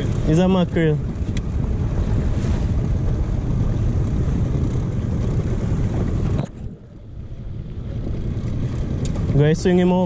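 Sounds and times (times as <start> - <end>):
water and hull noise: 0.0 - 10.0
wind buffeting microphone: 0.0 - 10.0.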